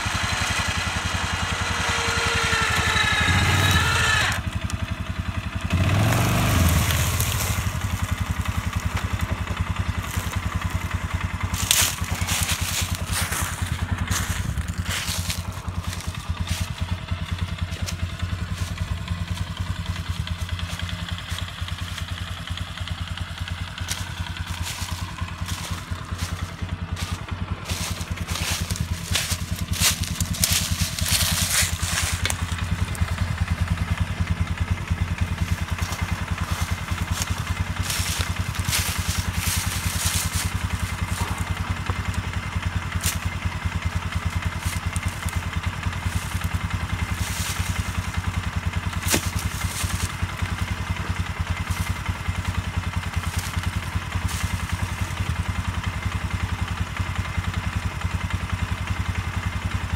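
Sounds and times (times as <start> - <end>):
atv engine idling: 0.0 - 59.9
crackling brush and clattering gear: 5.9 - 56.2.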